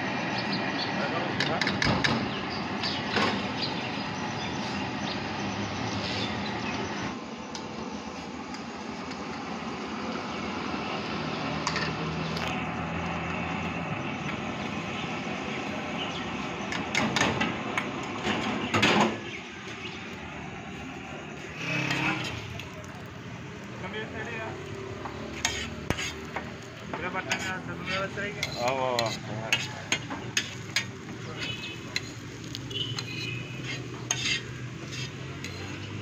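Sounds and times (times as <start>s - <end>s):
engine running: 0.0s - 36.0s
street background noise: 0.0s - 36.0s.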